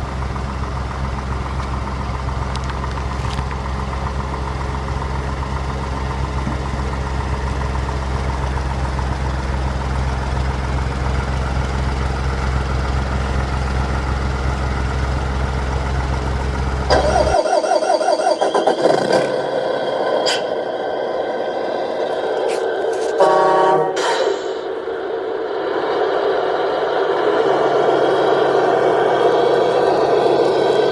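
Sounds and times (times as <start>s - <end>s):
vehicle engine droning: 0.0s - 30.9s.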